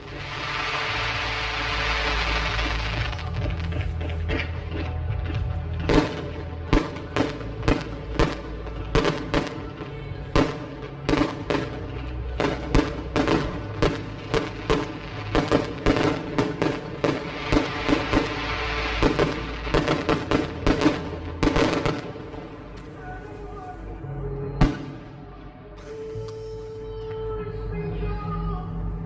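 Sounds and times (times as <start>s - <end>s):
fireworks bangs: 0.0s - 23.9s
crackling hiss: 0.0s - 24.0s
background music: 0.0s - 29.0s.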